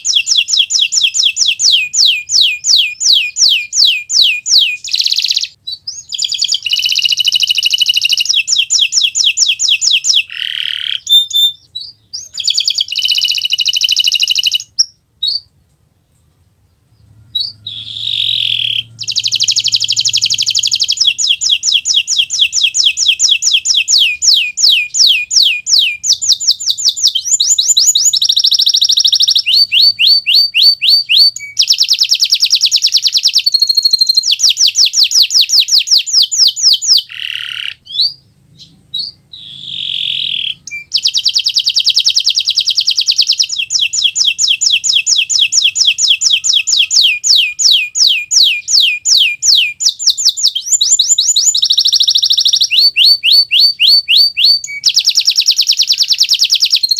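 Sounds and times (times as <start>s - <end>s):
canary singing in rapid trills: 0.0s - 15.5s, 16.8s - 56.9s.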